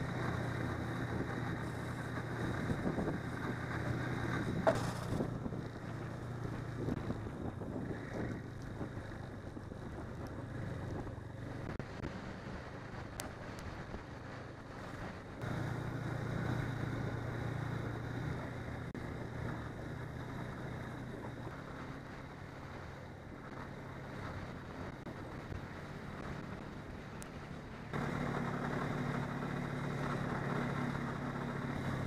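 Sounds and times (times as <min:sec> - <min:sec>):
snowmobile engine running: 0:00.0 - 0:32.0
wind buffeting microphone: 0:00.0 - 0:32.0.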